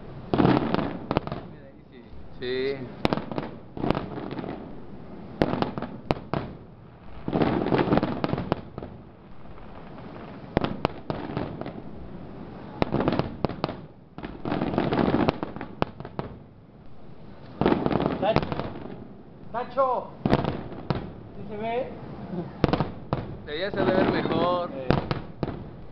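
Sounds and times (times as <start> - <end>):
fireworks bangs: 0.0 - 25.9
fireworks crackling: 0.0 - 25.9.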